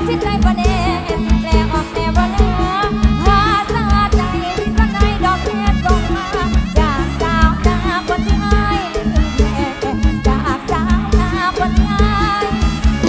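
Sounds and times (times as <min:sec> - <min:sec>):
dance music with heavy bass: 0:00.0 - 0:13.0.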